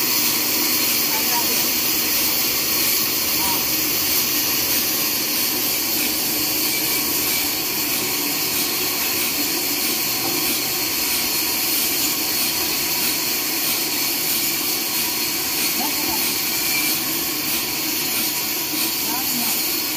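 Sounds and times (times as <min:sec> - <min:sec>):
sawmill machinery drone: 0:00.0 - 0:19.9.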